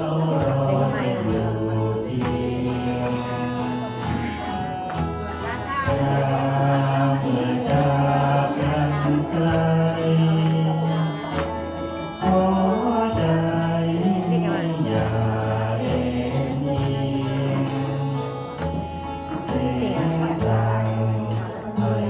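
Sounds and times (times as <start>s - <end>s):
man singing into microphone: 0.0s - 4.7s, 5.4s - 22.0s
karaoke backing track with beat: 0.0s - 22.0s.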